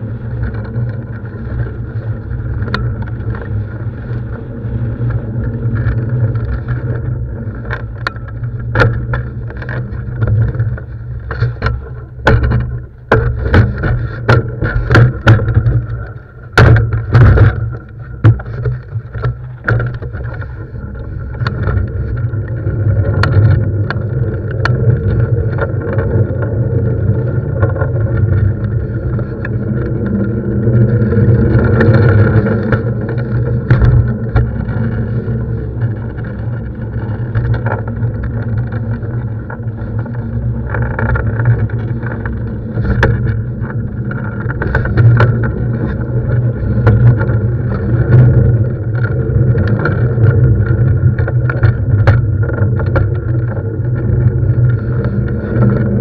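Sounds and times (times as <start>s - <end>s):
wheels rolling over asphalt: 0.0s - 56.0s.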